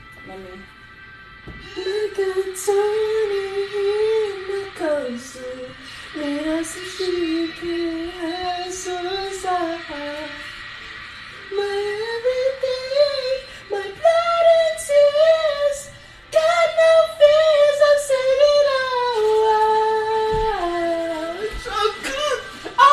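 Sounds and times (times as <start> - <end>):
woman singing slow melody: 1.6 - 10.7, 11.4 - 22.9.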